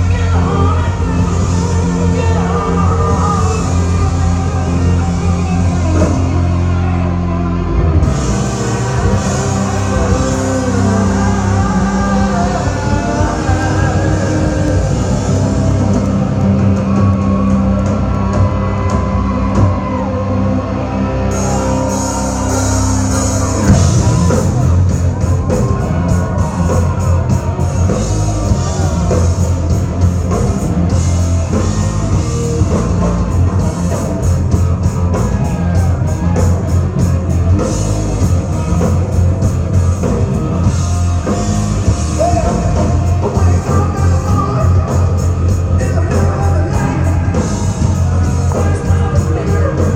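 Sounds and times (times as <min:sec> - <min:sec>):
driving drum beat: 0:00.0 - 0:07.0, 0:07.8 - 0:20.1, 0:21.3 - 0:49.9
person singing: 0:00.0 - 0:39.3, 0:40.0 - 0:49.9
rock guitar chords: 0:00.0 - 0:49.9.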